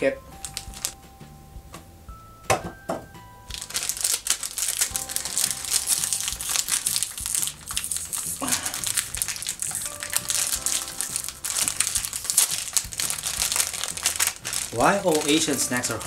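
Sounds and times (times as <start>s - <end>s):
background music: 0.0s - 16.0s
plastic packet crinkling: 0.4s - 1.0s, 3.5s - 16.0s.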